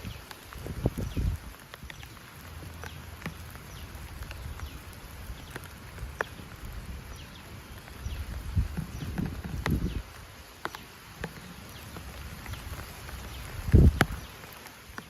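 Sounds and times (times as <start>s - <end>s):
wind rumble: 0.0s - 10.5s, 11.3s - 14.4s
raindrops ticking: 0.0s - 15.0s.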